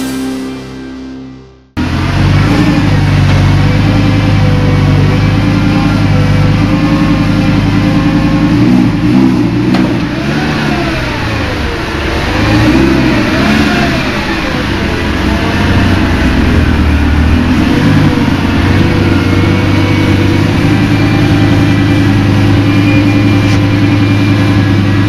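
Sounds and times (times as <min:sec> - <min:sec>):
car engine idling and revving: 0:01.7 - 0:25.0.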